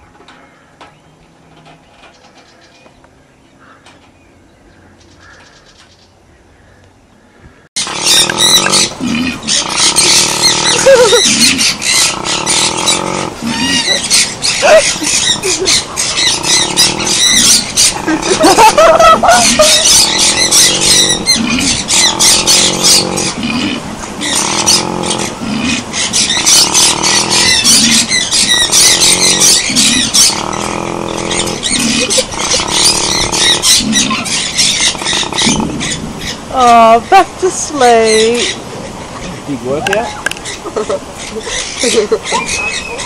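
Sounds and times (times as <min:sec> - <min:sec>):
koala bellowing: 0:07.8 - 0:43.0.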